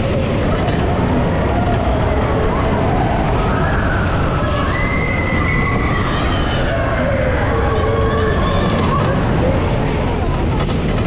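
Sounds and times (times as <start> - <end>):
coaster train rumbling on track: 0.0 - 11.0.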